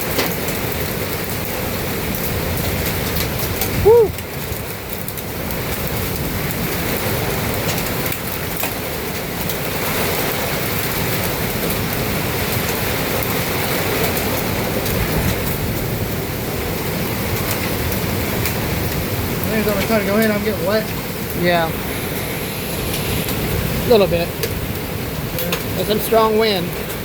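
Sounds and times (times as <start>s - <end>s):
hail ticking on awning: 0.0s - 27.0s
heavy rain pouring: 0.0s - 27.0s.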